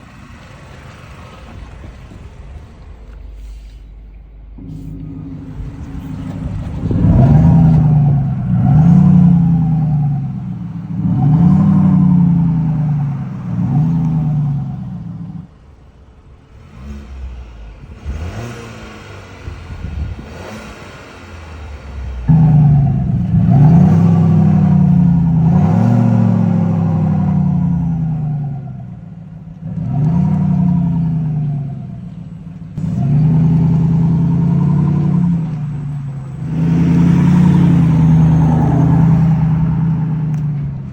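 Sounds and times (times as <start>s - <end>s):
car engine revving: 0.0s - 40.9s
synthesized exhaust note: 3.3s - 15.6s, 17.6s - 40.9s.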